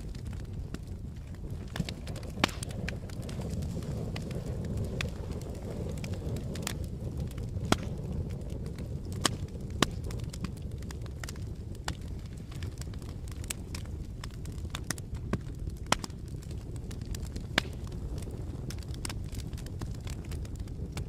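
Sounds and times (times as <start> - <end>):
burning wood crackling and popping: 0.0 - 21.0
low rumble of flames: 0.0 - 21.0.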